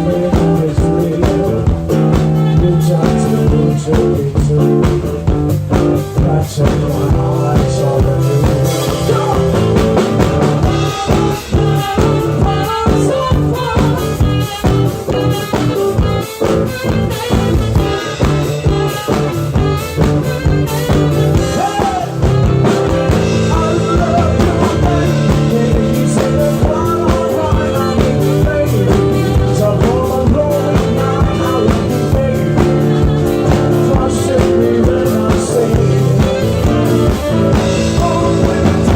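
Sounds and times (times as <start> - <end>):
rock band with guitar and drums: 0.0 - 38.9.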